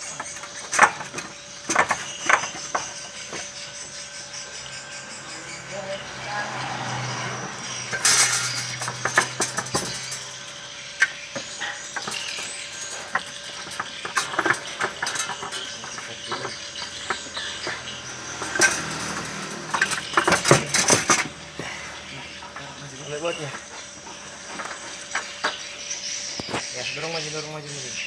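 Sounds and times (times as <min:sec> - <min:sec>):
metal clanks of hand tools: 0:00.0 - 0:04.7, 0:06.8 - 0:26.6.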